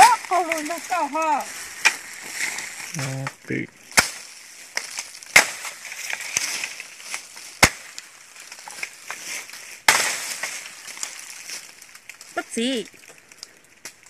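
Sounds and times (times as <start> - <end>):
sharp bamboo cracks: 0.0 - 1.0, 1.7 - 14.0
dry bamboo crackling and rustling: 0.0 - 14.0.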